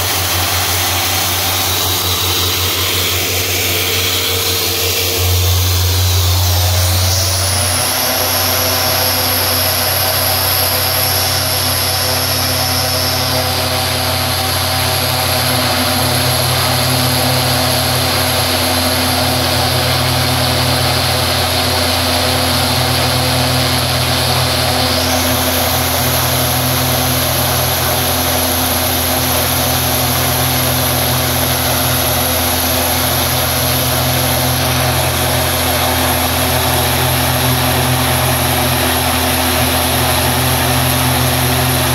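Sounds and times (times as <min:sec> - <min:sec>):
high turbine whine: 0:00.0 - 0:41.9
propeller drone: 0:00.0 - 0:41.9.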